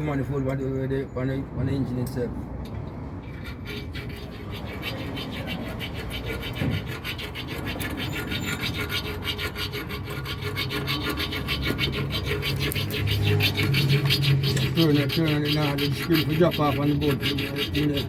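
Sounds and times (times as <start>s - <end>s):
hand tool rasping on a bolt: 3.2s - 18.0s.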